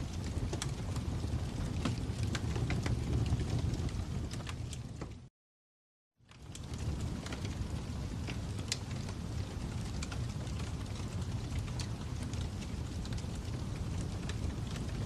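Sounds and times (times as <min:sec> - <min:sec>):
fire crackling: 0:00.0 - 0:05.3, 0:06.2 - 0:15.0
low rumble of flames: 0:00.0 - 0:05.3, 0:06.2 - 0:15.0.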